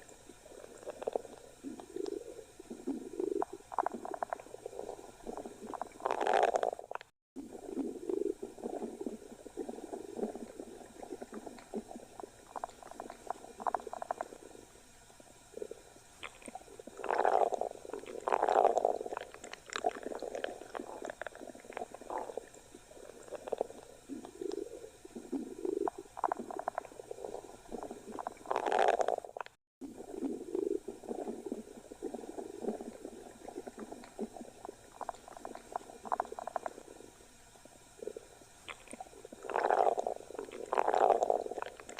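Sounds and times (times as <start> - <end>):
stomach growling: 0.0 - 41.9.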